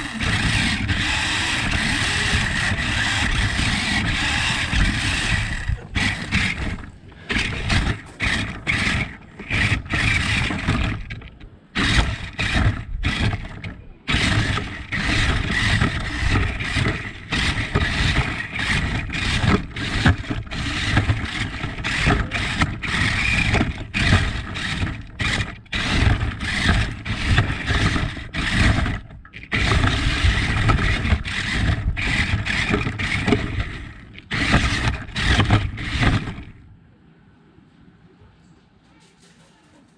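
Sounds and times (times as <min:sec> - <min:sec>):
toy car electric motor whining: 0:00.0 - 0:36.6
wheels scraping over ground: 0:00.0 - 0:36.7.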